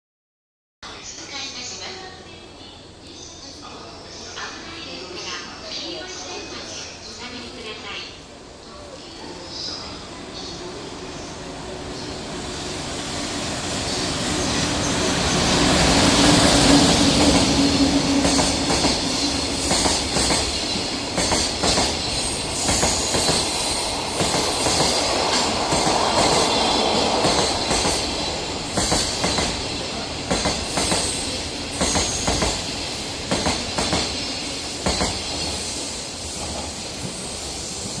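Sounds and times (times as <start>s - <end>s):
electric locomotive passing: 1.1s - 38.0s.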